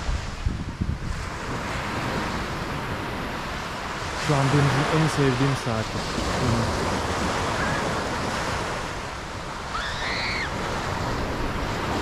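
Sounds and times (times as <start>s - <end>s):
sea surf washing ashore: 0.0s - 12.0s
wind on microphone: 0.0s - 12.0s.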